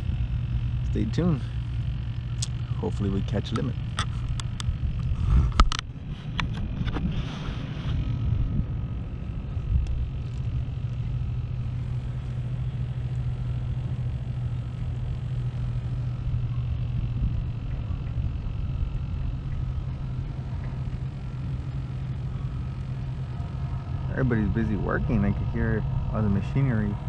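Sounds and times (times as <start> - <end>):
distant industrial machinery rumble: 0.0 - 27.0.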